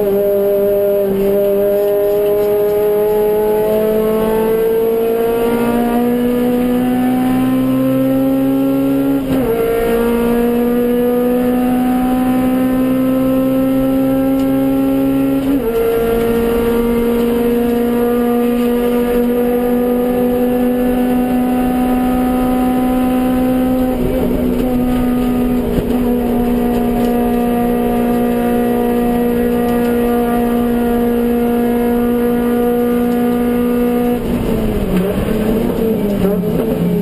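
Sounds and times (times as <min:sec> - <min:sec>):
car engine at full throttle: 0:00.0 - 0:37.0.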